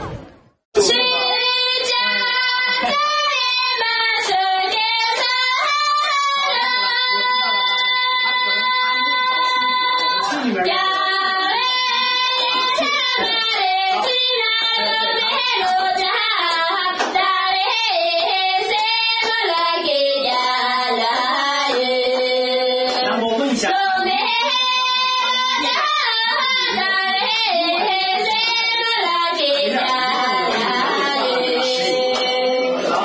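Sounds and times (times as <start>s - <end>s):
person singing: 0.8s - 33.0s.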